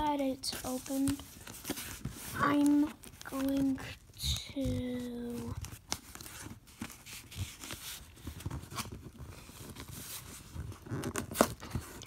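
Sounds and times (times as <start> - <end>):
cardboard rustling and scraping: 0.2 - 12.0.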